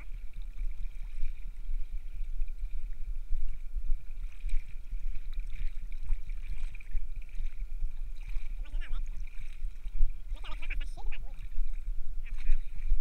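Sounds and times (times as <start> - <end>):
faint high-pitched hum: 0.0 - 13.0
wind buffeting microphone: 0.0 - 13.0.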